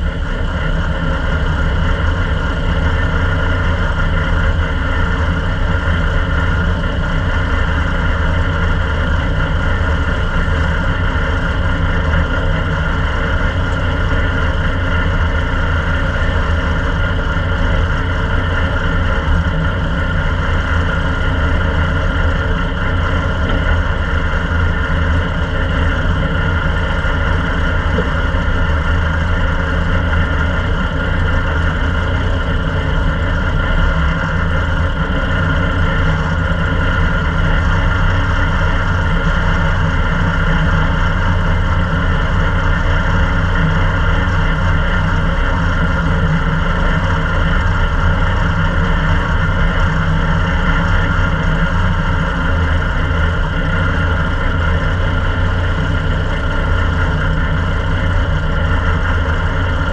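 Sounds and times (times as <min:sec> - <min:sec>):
race car engine idling: 0:00.0 - 0:59.9.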